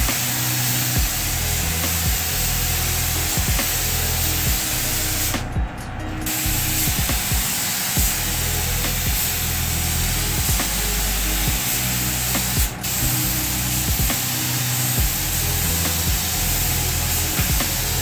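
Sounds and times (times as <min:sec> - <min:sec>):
background music: 0:00.0 - 0:18.0
spray gun hissing: 0:00.0 - 0:18.0.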